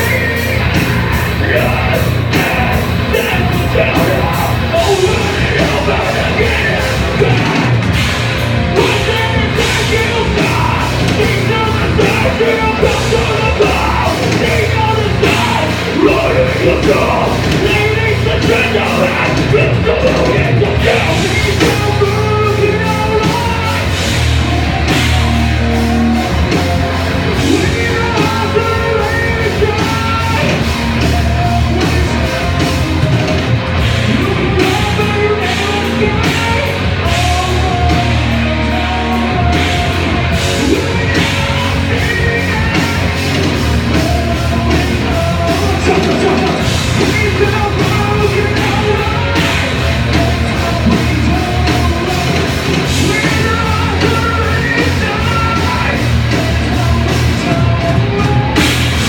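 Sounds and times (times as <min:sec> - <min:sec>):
heavy rock band playing: 0:00.0 - 0:59.0
singer shouting and singing: 0:00.0 - 0:59.0.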